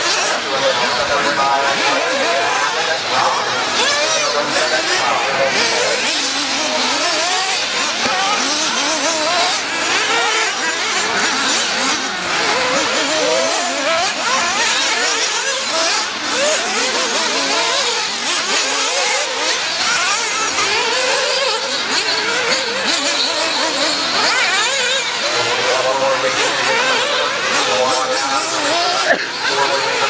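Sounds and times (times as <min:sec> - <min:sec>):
model buggy engines buzzing: 0:00.0 - 0:30.0.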